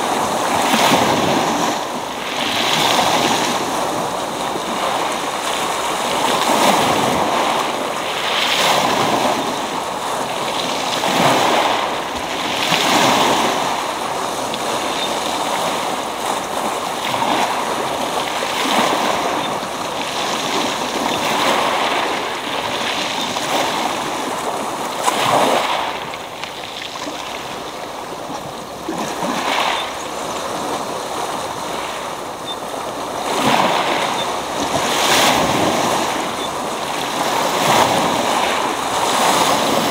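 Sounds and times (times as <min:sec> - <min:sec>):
waves breaking on pebble beach: 0:00.0 - 0:39.9.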